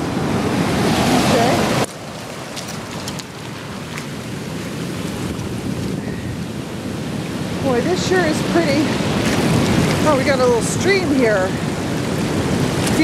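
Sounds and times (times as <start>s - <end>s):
surf hissing on beach: 0.0s - 13.0s.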